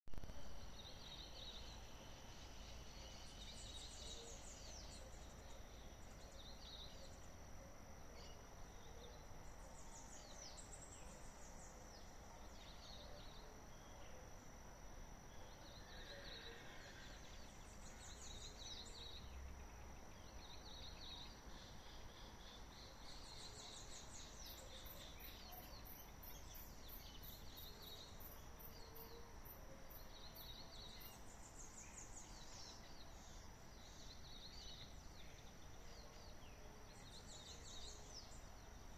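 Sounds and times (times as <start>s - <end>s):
high insect drone: 0.2s - 38.9s.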